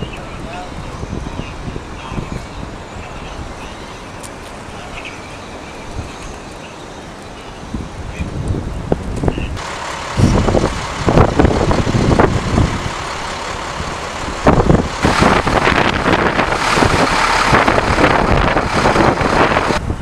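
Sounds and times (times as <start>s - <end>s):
gusty wind buffeting microphone: 0.0s - 6.6s, 7.2s - 20.0s.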